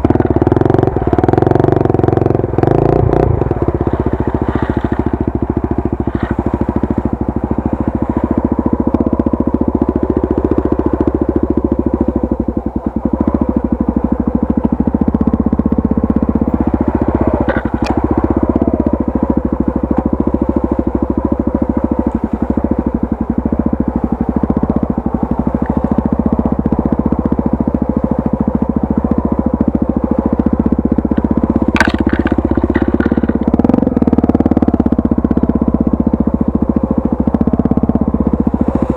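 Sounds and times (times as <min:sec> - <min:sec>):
motorcycle engine at low revs: 0:00.0 - 0:38.9.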